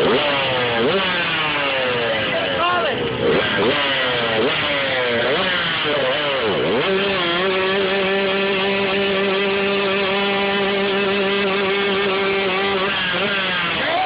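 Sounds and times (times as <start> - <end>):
vehicle engine: 0.0 - 14.0.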